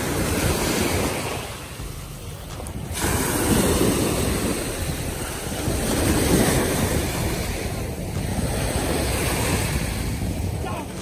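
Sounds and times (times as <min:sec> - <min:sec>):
ocean waves breaking: 0:00.0 - 0:11.0
wind rumbling on microphone: 0:00.0 - 0:11.0.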